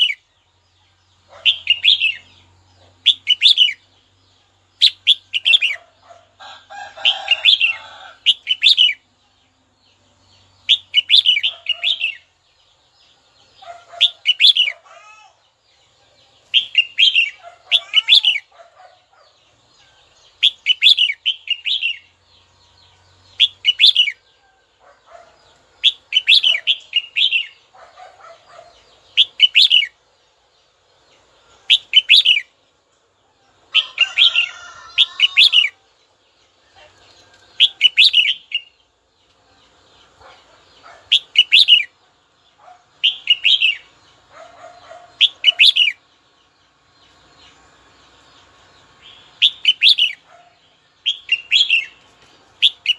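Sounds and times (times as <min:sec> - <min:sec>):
bird singing warbled phrases: 0:00.0 - 0:52.9
faint bird chatter: 0:00.0 - 0:52.9.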